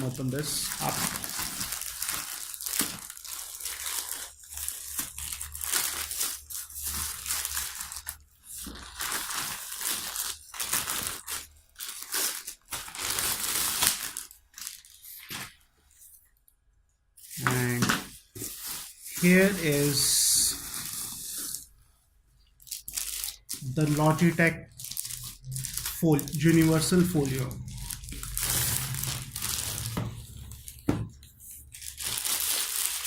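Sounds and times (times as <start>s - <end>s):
packaging crinkling and tearing: 0.0s - 16.0s, 17.2s - 21.7s, 22.6s - 33.0s.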